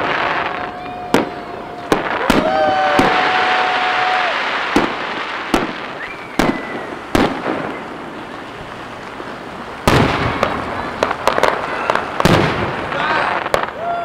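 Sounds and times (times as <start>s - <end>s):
firework shells bursting: 0.0s - 13.8s.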